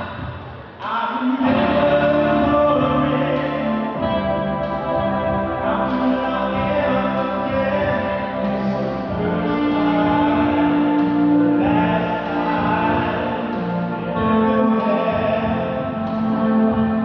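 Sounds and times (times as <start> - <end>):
music with singing: 0.0 - 17.0.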